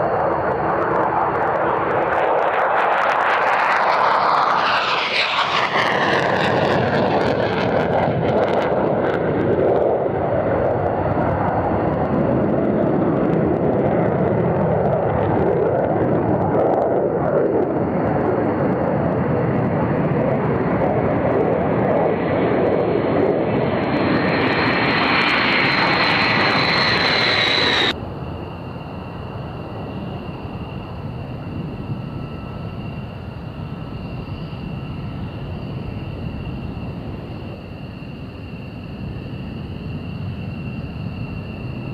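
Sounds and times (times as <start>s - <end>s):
high jet whine: 0.0s - 41.9s
jet engines roaring: 0.0s - 41.9s.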